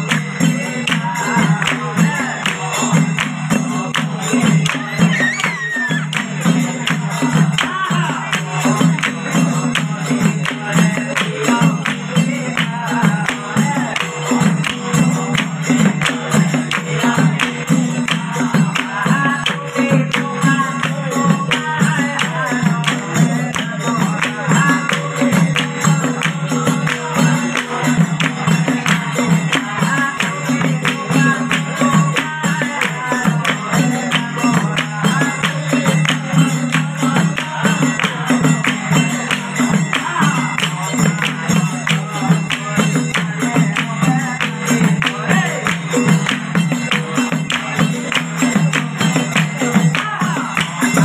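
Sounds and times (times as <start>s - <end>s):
group singing folk song: 0.0s - 51.0s
hand-clapping beat: 0.0s - 51.0s.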